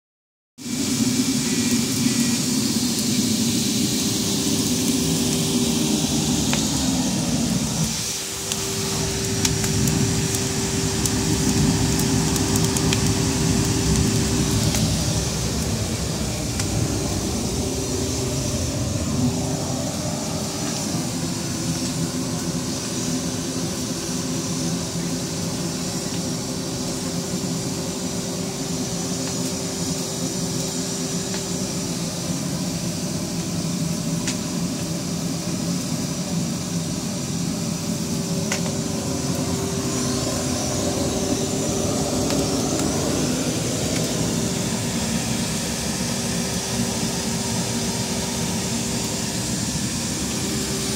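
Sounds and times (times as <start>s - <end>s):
fire crackling: 0.6s - 50.9s
roaring flames: 0.6s - 50.9s
vacuum cleaner motor whine: 0.6s - 50.9s.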